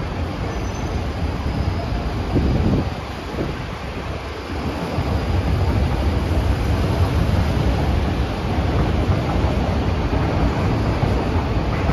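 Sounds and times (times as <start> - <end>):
train rumbling on elevated track: 0.0 - 11.9.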